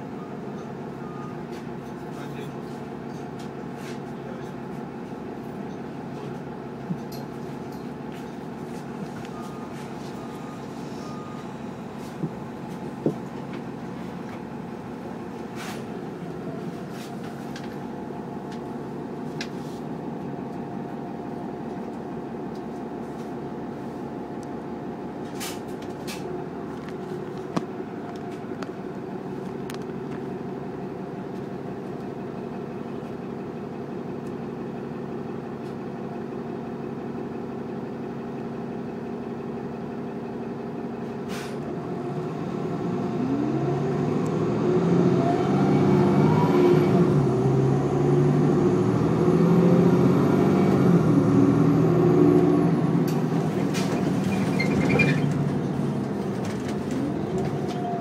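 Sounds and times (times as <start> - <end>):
bus engine humming: 0.0 - 58.0.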